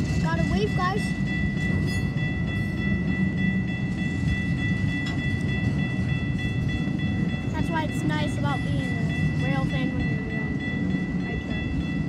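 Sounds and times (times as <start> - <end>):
train wheels rumbling on rail: 0.0 - 12.0
high-pitched ringing tone: 0.3 - 12.0.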